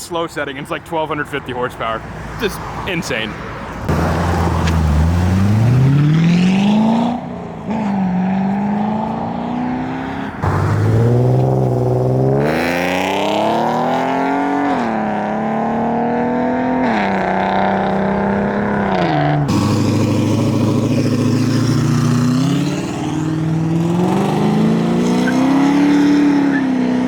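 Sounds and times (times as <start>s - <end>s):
car engine accelerating hard: 3.9s - 27.0s.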